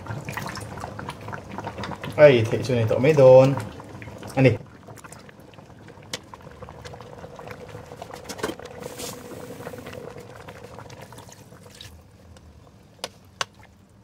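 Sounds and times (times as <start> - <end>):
water poured into a pot: 0.0 - 12.0.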